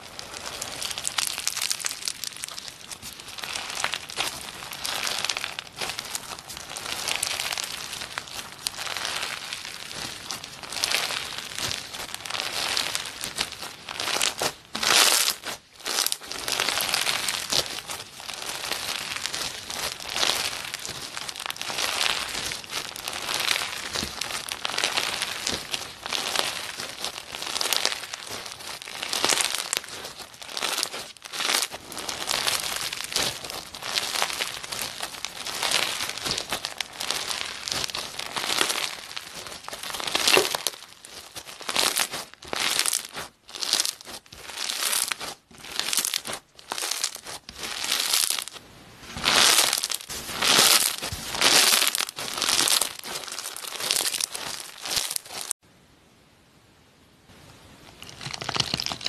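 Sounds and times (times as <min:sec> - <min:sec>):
slime crackling and crinkling: 0:00.0 - 0:55.6, 0:57.8 - 0:59.0.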